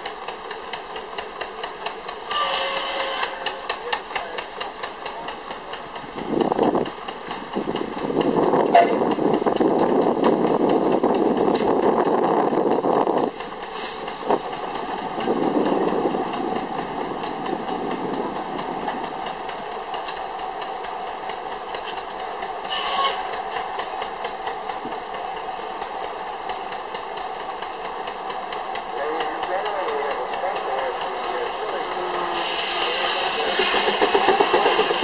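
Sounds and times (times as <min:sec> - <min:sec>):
steam engine chuffing: 0:00.0 - 0:35.0.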